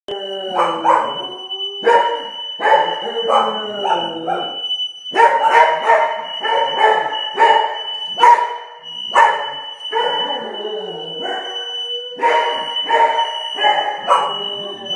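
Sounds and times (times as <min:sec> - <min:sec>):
dog barking and yowling: 0:00.1 - 0:08.6, 0:09.2 - 0:14.9
smoke detector high tone: 0:00.1 - 0:14.9.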